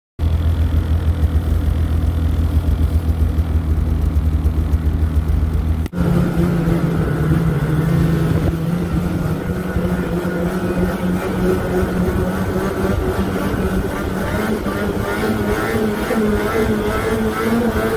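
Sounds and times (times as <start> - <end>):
snowmobile engine at high revs: 0.2 - 17.9
snowmobile engine idling: 0.2 - 17.9.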